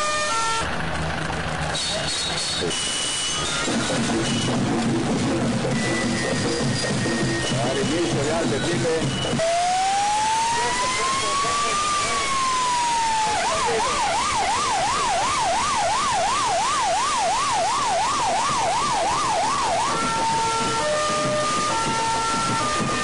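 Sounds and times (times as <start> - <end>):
fire engine siren: 0.0 - 23.0.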